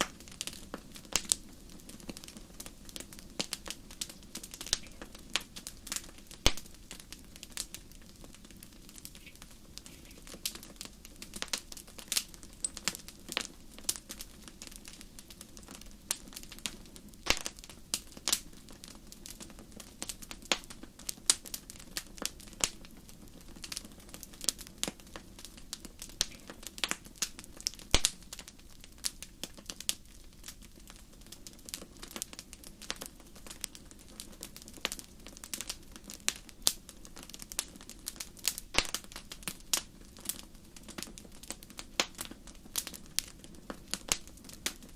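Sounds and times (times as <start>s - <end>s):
low hiss of flame: 0.0s - 44.9s
wood fire crackling and popping: 0.0s - 44.9s.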